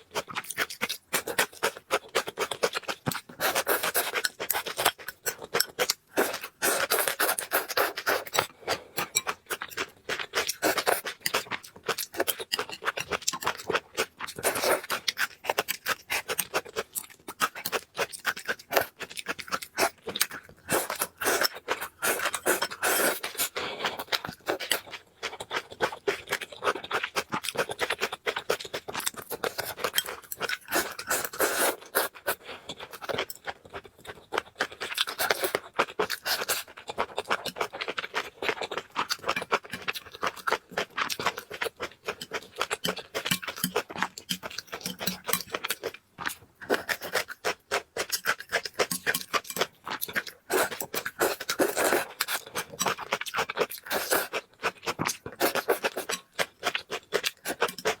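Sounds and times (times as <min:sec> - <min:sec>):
chewing and slurping noodles: 0:00.0 - 0:58.0.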